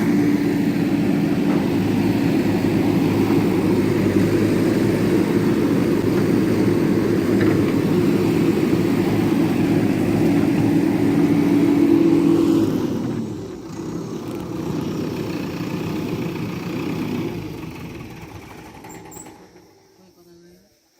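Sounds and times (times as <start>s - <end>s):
backhoe diesel engine droning: 0.0s - 20.2s.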